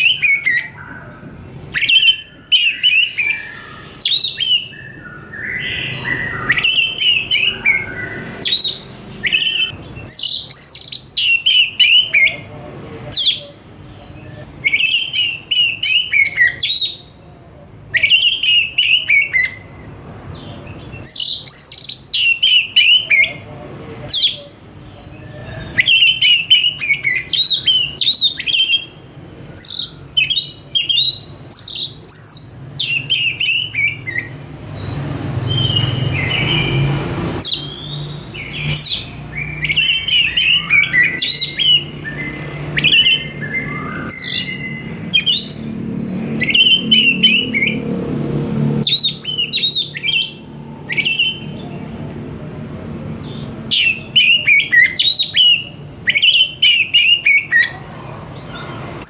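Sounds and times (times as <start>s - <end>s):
songbird whistling: 0.0s - 12.5s, 13.1s - 17.1s, 17.9s - 23.4s, 25.1s - 47.8s, 48.8s - 52.0s, 53.2s - 57.8s.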